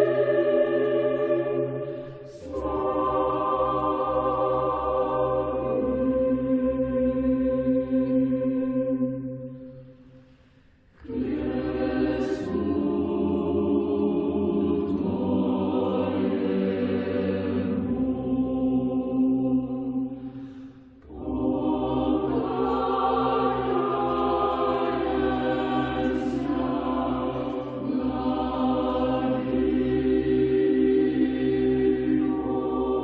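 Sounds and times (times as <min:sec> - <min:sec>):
choir singing a slow chant: 0:00.0 - 0:33.0.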